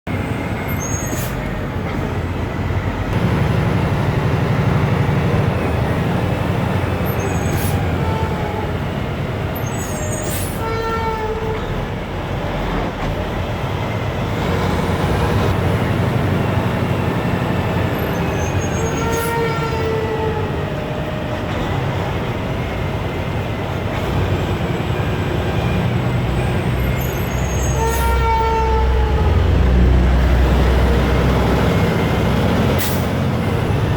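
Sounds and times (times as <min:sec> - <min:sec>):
heavy vehicle low rumble: 0:00.1 - 0:33.9.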